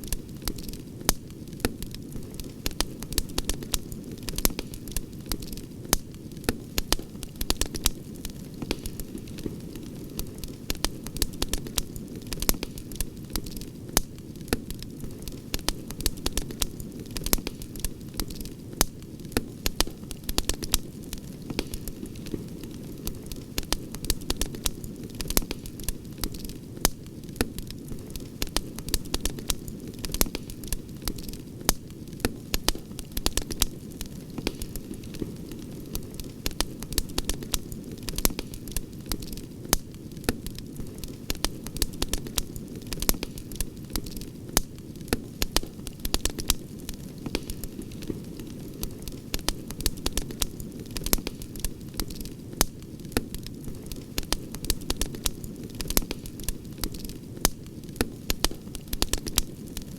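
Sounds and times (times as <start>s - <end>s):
campfire crackling: 0.0s - 59.9s
low rush of burning wood: 0.0s - 59.9s.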